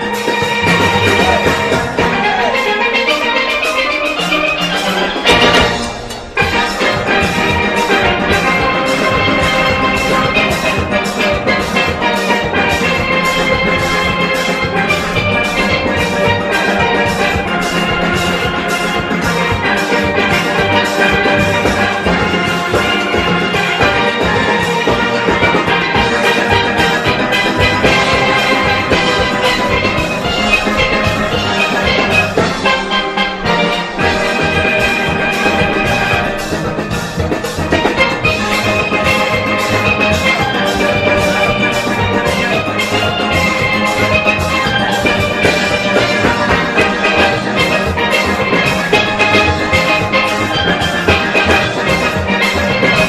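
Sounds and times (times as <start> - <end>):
drums and percussion beat: 0.0 - 53.0
steelpans playing bright melody: 0.0 - 53.0.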